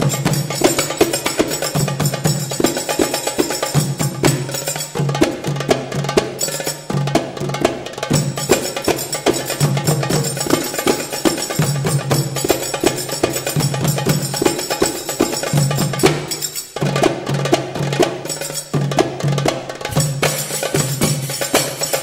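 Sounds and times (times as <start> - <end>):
percussion music with bass: 0.0 - 22.0.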